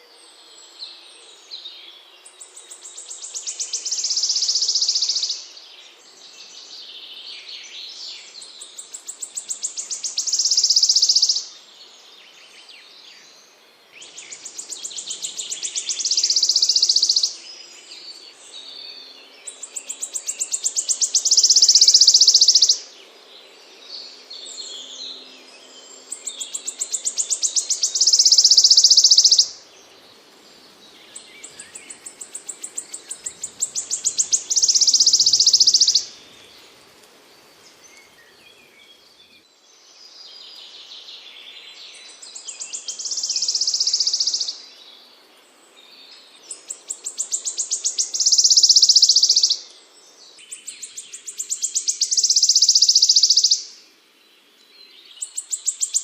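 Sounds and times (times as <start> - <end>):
songbird singing buzzy trill: 0.0 - 56.0.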